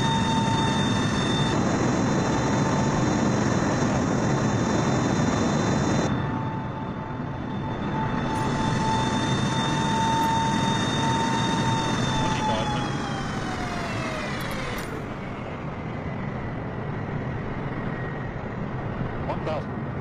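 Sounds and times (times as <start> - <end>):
jet engine high whine: 0.0 - 20.0
jet engines rushing: 0.0 - 20.0.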